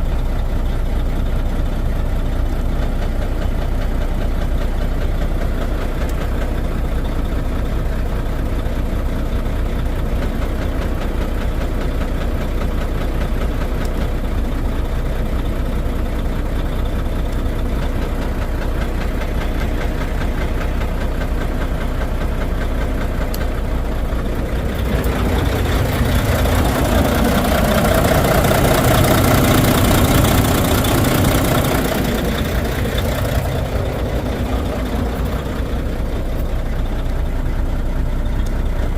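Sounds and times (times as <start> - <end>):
diesel engine idling unevenly: 0.0 - 38.9.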